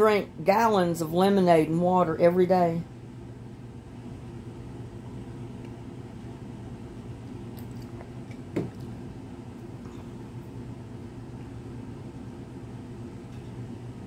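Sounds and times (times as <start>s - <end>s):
appliance humming: 0.0s - 14.0s.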